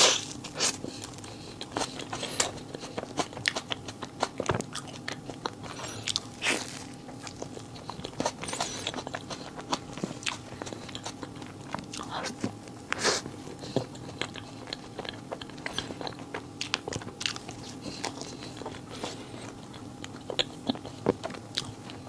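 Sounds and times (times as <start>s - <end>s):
crisp crunching bites and chewing: 0.0s - 12.8s, 13.6s - 22.0s.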